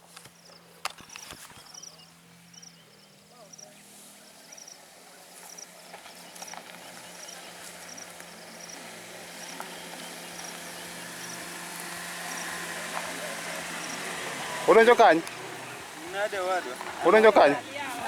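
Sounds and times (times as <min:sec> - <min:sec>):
steady background hiss: 0:00.1 - 0:18.0.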